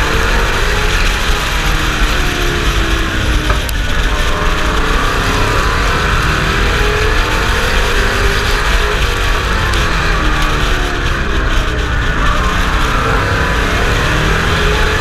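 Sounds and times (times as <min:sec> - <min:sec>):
racing engine running hard: 0:00.0 - 0:15.0
wind noise: 0:00.0 - 0:15.0.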